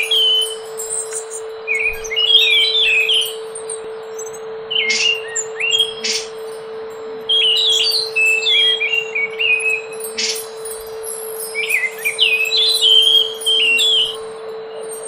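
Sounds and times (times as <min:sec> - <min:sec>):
steady low hum: 0:00.0 - 0:15.0
thrush singing: 0:00.0 - 0:15.0.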